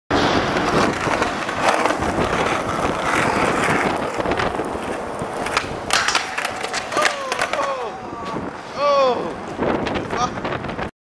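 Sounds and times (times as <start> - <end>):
skateboard clacks: 0.1 - 10.7
skateboard wheels rolling on concrete: 0.1 - 10.9.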